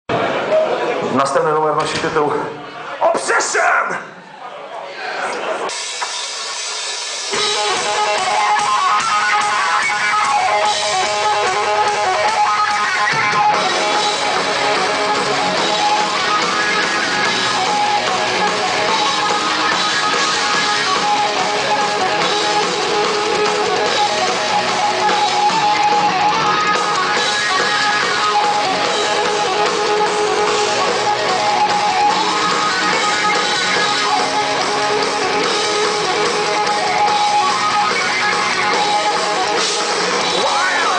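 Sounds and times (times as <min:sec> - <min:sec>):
heavy metal band playing live: 0:05.6 - 0:40.9.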